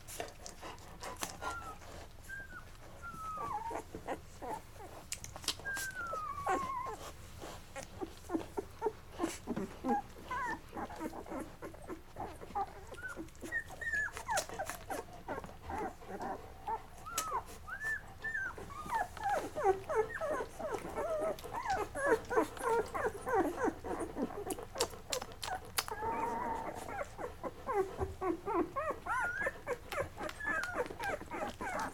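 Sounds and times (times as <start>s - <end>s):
puppies squeaking and whimpering: 1.0s - 31.9s.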